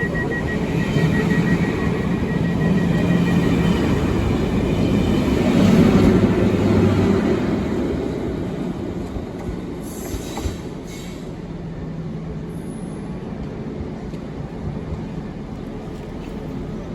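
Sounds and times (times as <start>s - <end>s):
train rumbling on track: 0.0s - 16.9s.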